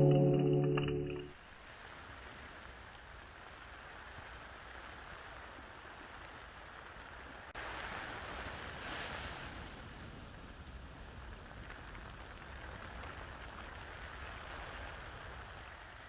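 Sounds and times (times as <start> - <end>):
rain: 1.3 - 16.0
wind: 1.3 - 16.0.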